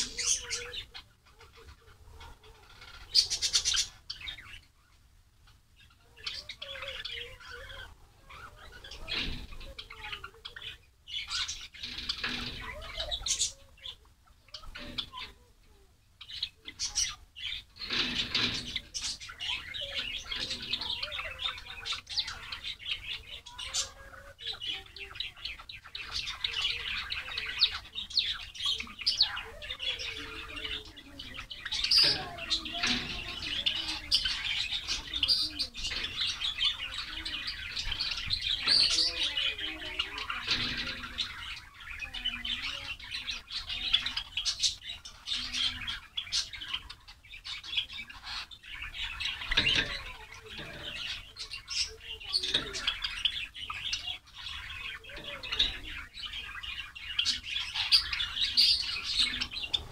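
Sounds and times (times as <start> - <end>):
flock of sparrows chirping: 0.0 - 59.9.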